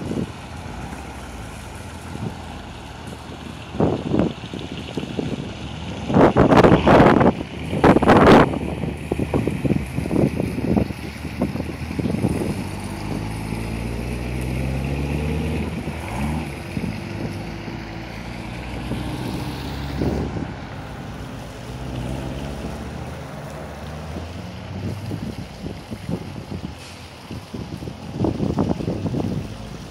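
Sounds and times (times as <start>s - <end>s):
engine revving: 0.0s - 27.0s
car engines rumbling: 0.0s - 29.9s.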